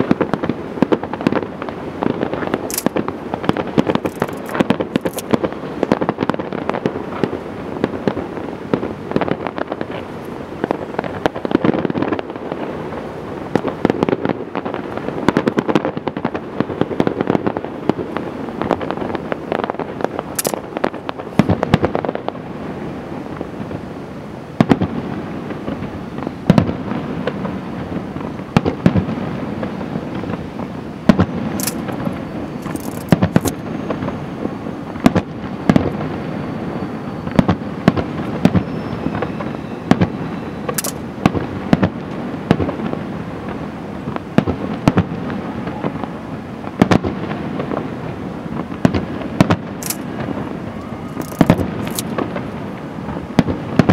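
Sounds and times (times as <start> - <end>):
firework bangs and crackles: 0.0 - 53.9.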